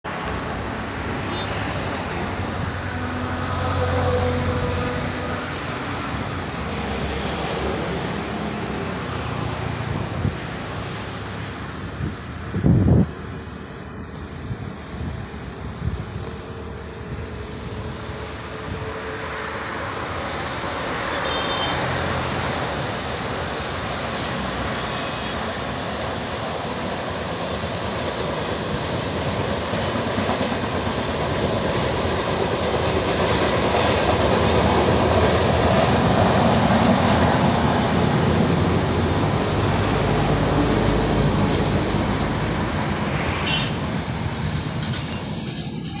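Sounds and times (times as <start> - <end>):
train wheels rumbling on rails: 0.1 - 46.0.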